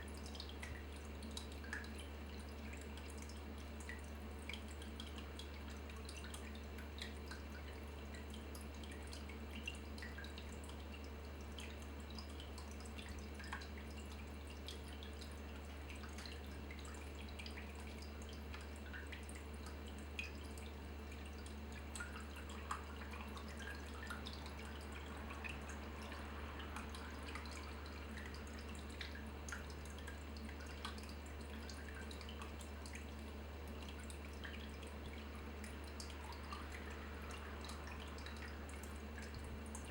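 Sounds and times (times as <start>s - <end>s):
steady low hum: 0.0s - 39.9s
water dripping and trickling: 0.0s - 39.9s.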